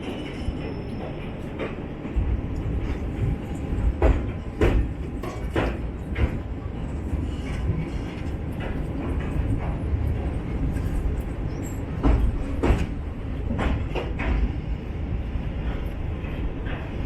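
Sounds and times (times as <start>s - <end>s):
train rumbling on rails: 0.0s - 17.0s
wheel clacks over rail joints: 0.1s - 14.6s.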